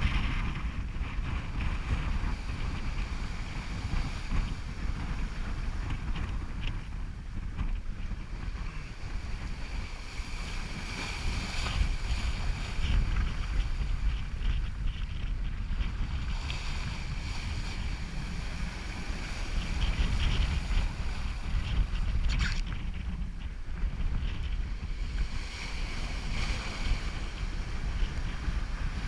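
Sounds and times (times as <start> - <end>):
water rushing along boat hull: 0.0 - 29.0
wind buffeting microphone: 0.0 - 29.0.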